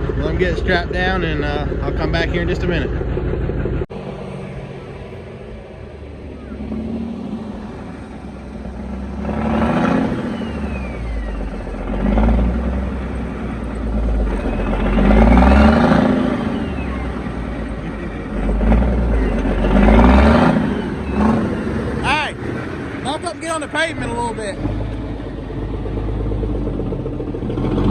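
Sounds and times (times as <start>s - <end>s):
heavy vehicle engine revving: 0.0s - 27.9s.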